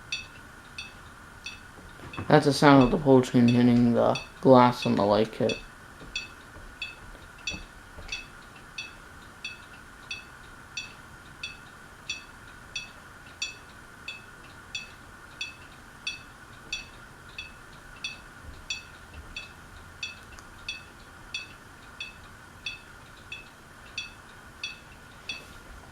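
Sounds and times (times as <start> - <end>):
ceiling fan hum: 0.0 - 25.9.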